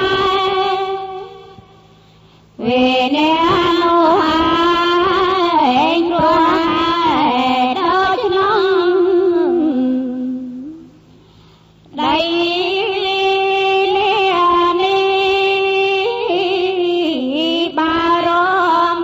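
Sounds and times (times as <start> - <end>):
person chanting slow melody: 2.6 - 11.0, 11.9 - 19.0.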